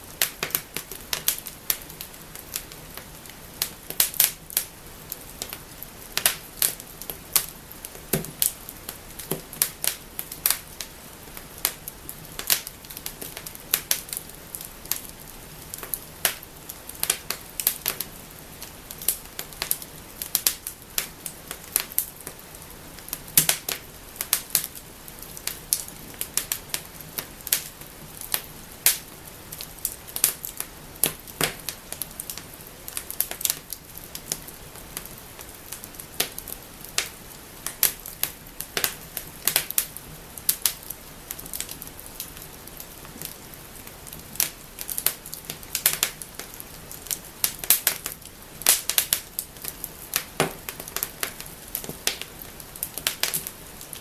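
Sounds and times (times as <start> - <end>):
low steady fire hiss: 0.0 - 54.0
wood fire crackling and popping: 0.0 - 54.0.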